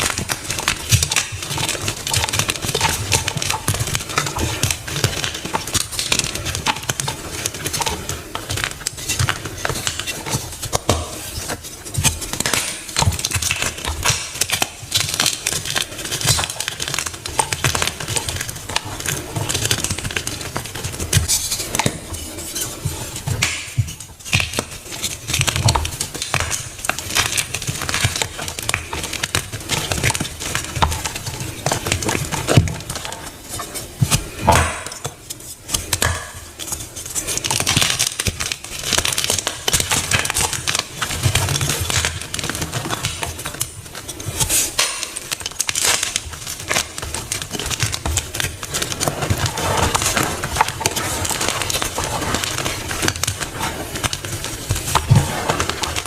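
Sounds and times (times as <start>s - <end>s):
block being crushed crackling: 0.0s - 56.0s.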